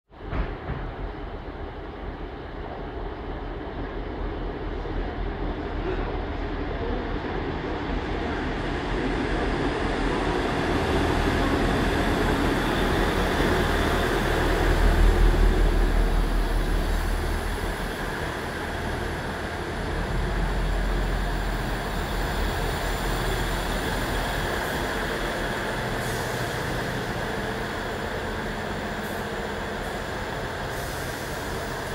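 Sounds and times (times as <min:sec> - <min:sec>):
diesel train engine rumble: 0:00.2 - 0:31.9
train wheels on rails: 0:00.2 - 0:31.9.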